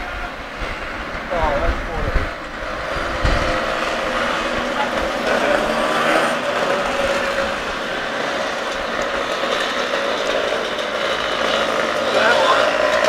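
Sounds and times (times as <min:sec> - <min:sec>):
cars passing: 0:00.0 - 0:13.0
scooter engines buzzing past: 0:00.0 - 0:13.0.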